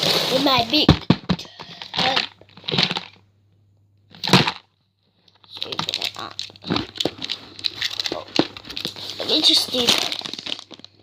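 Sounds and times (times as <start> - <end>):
crinkling and crackling: 0.0 - 3.2, 4.1 - 11.0.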